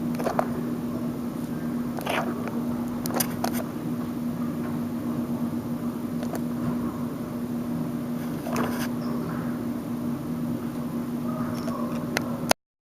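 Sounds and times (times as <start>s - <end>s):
low mechanical hum: 0.0s - 12.6s.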